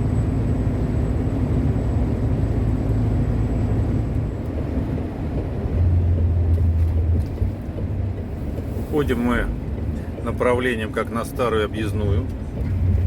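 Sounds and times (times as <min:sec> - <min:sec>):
road noise: 0:00.0 - 0:13.0
truck engine running: 0:00.0 - 0:13.0.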